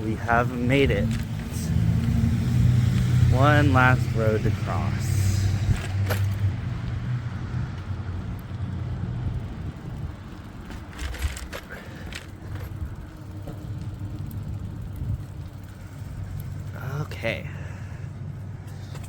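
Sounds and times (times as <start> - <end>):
bicycle clicks and rattles: 0.0 - 19.0
vehicle engine hum: 0.0 - 19.0.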